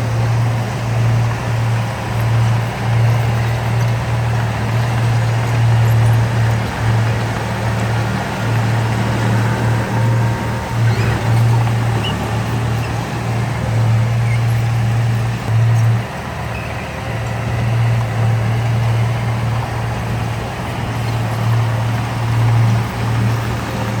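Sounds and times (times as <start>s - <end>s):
heavy diesel engine droning: 0.0s - 24.0s.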